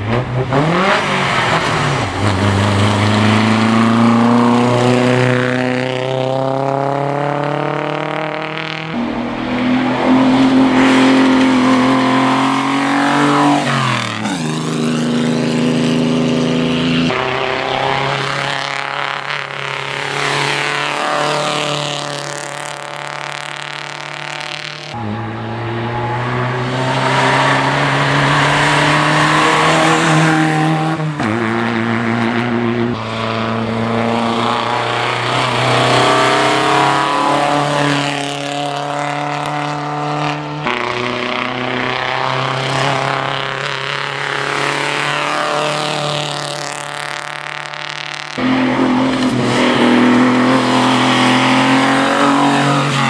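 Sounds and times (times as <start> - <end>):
racing car engines revving: 0.0 - 53.0.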